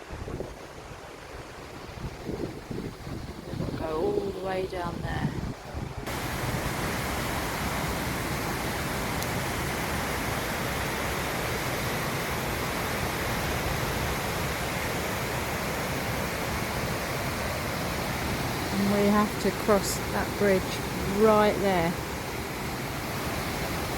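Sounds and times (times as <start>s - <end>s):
river rushing over rapids: 0.0s - 4.7s, 5.4s - 23.9s.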